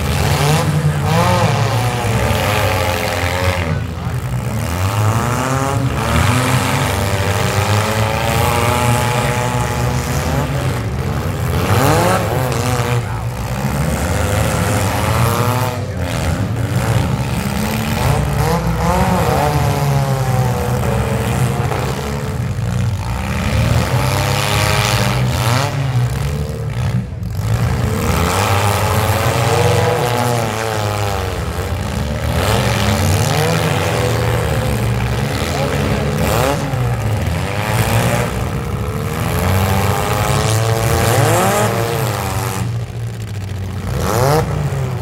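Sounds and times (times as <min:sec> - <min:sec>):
car engines revving: 0:00.0 - 0:45.0.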